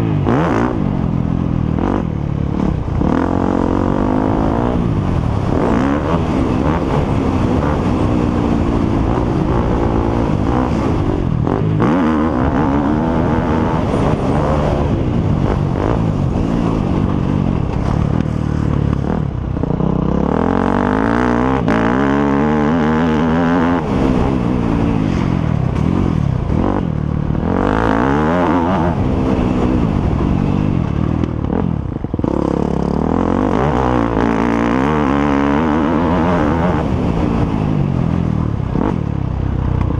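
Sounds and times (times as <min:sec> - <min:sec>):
motocross motorcycle engines revving: 0:00.0 - 0:39.9.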